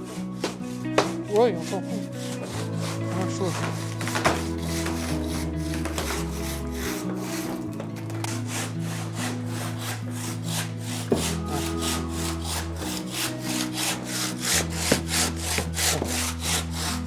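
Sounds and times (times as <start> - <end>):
handsaw rasping through stone: 0.0 - 17.0.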